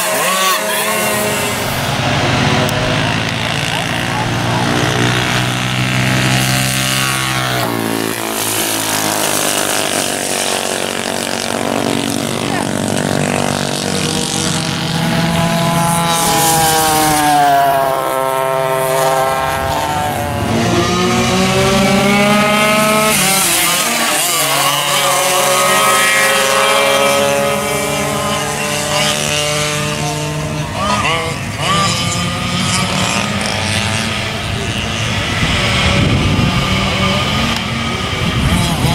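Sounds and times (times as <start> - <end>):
go-kart engines racing past: 0.0 - 38.9.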